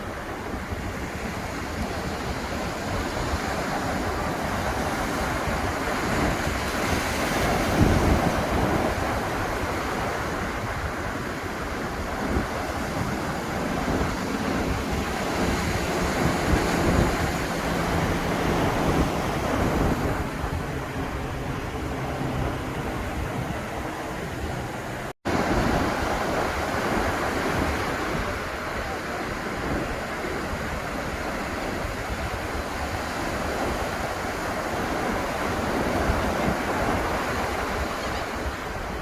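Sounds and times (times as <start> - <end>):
surf breaking on beach: 0.0 - 39.0
wind on microphone: 0.0 - 39.0.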